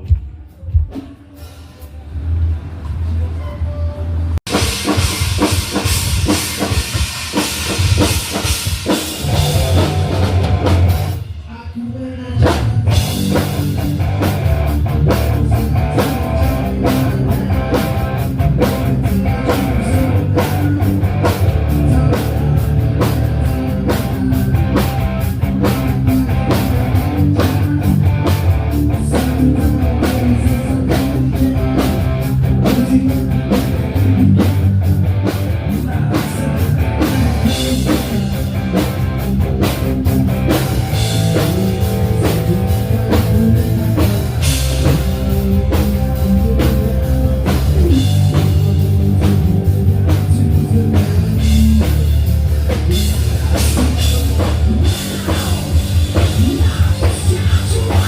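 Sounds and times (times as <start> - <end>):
driving drum beat: 4.4 - 58.0
live rock band playing loudly: 4.4 - 58.0.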